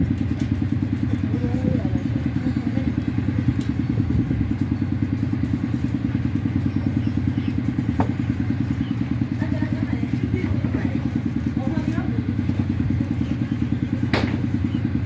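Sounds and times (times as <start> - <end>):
engine running low throb: 0.0 - 15.0.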